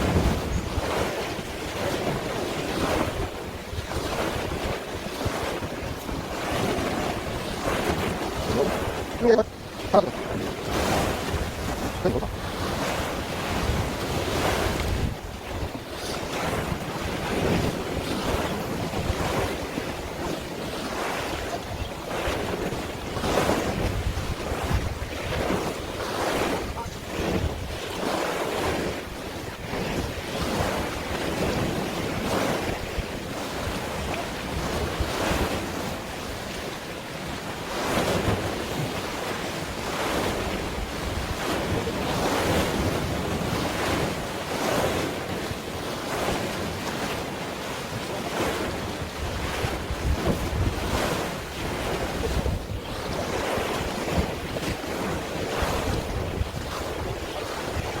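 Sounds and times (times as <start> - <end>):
waves washing and splashing: 0.0 - 58.0
wind buffeting microphone: 0.0 - 58.0.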